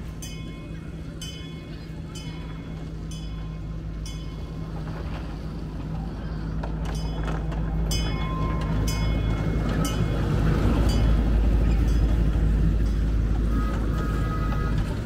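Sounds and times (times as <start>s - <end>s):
miniature train rumbling on track: 0.0s - 15.0s.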